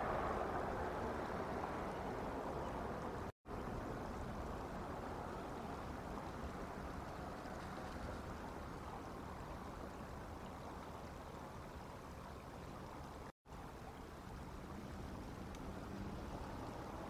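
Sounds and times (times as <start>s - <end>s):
low rushing background noise: 0.0s - 17.0s.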